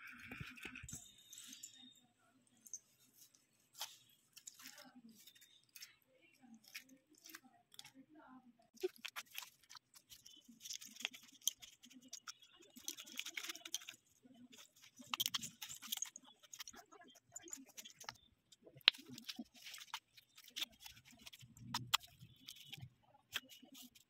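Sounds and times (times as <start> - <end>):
slime squishing: 3.2 - 8.1, 8.7 - 24.0.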